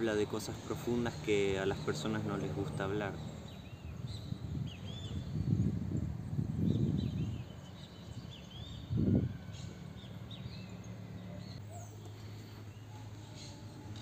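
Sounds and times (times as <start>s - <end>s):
small birds chirping: 0.0s - 14.0s
low rumbles: 0.6s - 12.8s.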